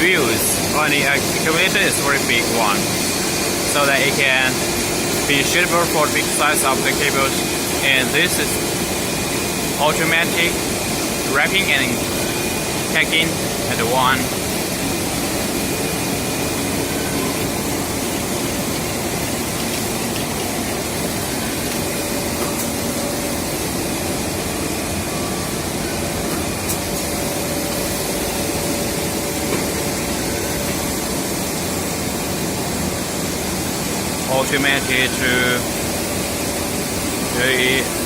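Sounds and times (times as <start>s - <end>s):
factory machinery noise: 0.0s - 38.0s.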